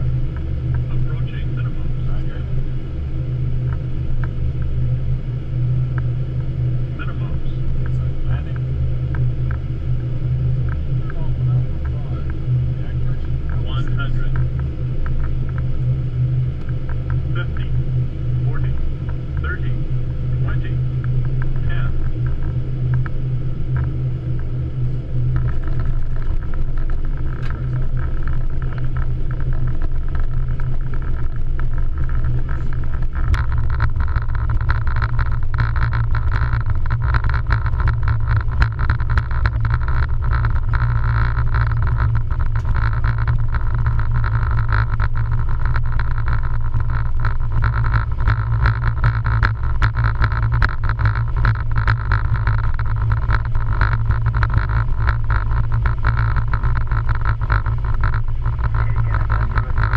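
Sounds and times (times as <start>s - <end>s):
aircraft cockpit low rumble: 0.0s - 59.9s.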